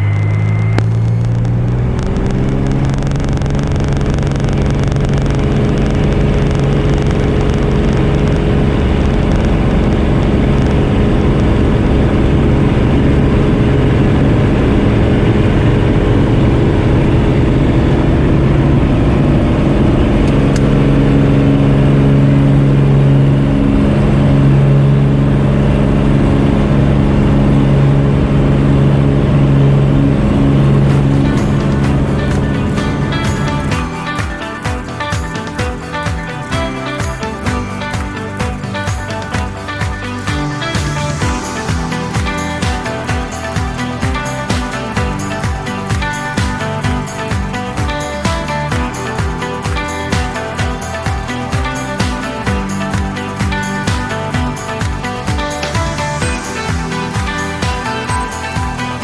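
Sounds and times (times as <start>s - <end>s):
propeller plane engine running: 0.0s - 59.0s.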